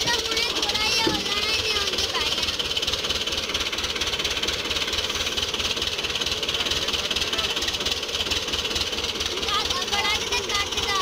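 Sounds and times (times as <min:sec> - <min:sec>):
tractor diesel engine clattering: 0:00.0 - 0:11.0.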